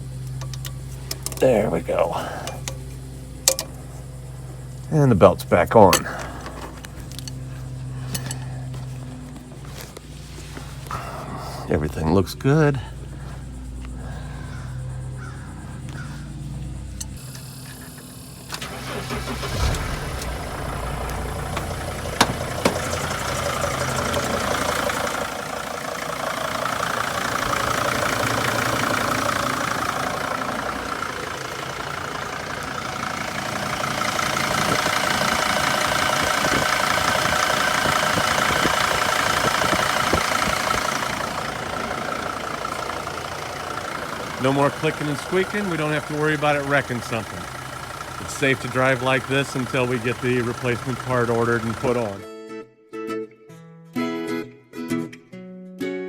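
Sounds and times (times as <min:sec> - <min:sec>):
van engine starting and idling: 0:00.0 - 0:52.2.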